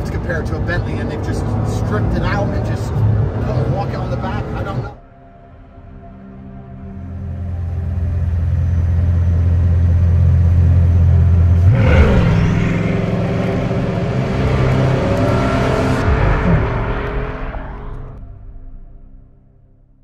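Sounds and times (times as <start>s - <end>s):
car engine accelerating: 0.0s - 5.0s, 7.3s - 18.4s.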